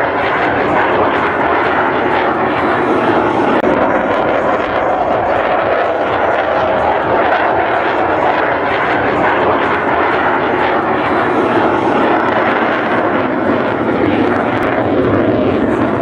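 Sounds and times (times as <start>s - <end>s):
jet engines roaring in flight: 0.0s - 16.0s.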